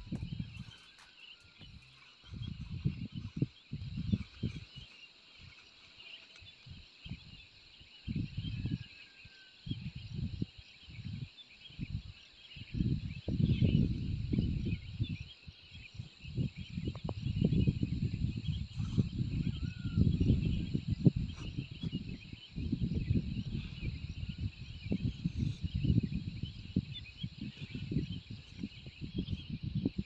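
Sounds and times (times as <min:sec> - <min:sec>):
low rumbling on microphone: 0:00.0 - 0:00.8, 0:01.6 - 0:04.9, 0:09.7 - 0:30.0
insects chirring: 0:00.0 - 0:30.0.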